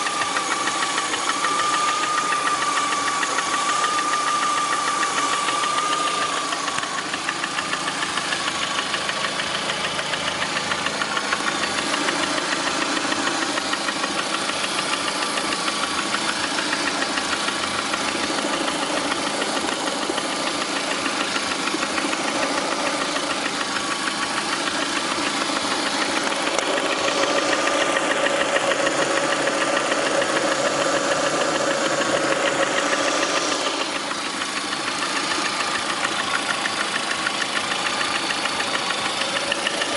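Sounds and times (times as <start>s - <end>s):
car engine knocking: 0.0s - 39.9s.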